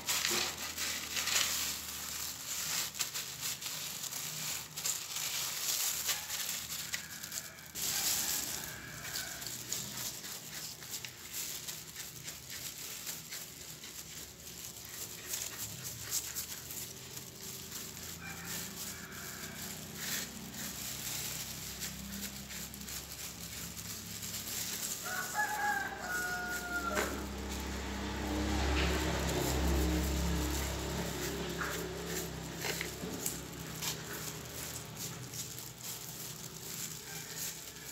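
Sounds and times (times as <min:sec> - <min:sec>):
clay pebbles rattling: 0:00.0 - 0:37.9
trowel scraping dry soil: 0:00.0 - 0:37.9.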